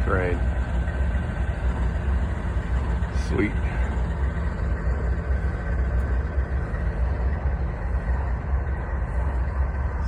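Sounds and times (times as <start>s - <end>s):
diesel locomotive engines rumbling: 0.0s - 10.0s.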